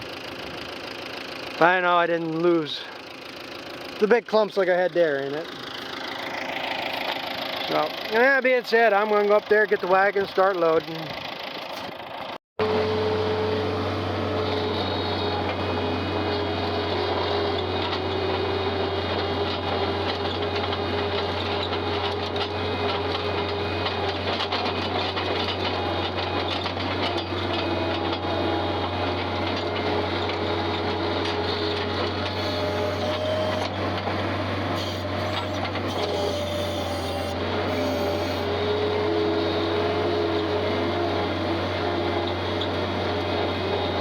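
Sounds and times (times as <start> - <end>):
farm vehicle engine droning: 0.0 - 44.0.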